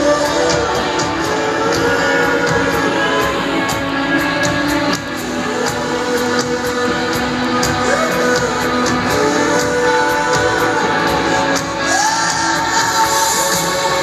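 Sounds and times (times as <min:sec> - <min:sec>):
drums keeping a steady beat: 0:00.0 - 0:14.0
guitars: 0:00.0 - 0:14.0.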